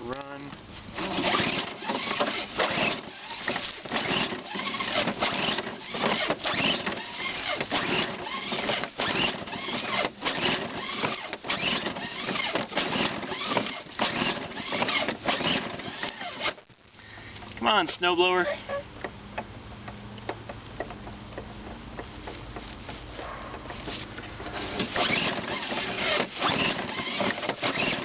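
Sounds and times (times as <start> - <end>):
starter rope rasping: 0.8 - 16.6, 19.9 - 28.0
engine turning over: 0.9 - 16.6, 19.0 - 28.0.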